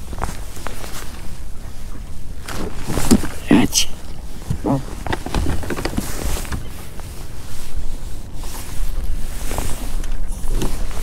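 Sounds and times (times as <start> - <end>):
small waves lapping against hull: 0.0 - 11.0.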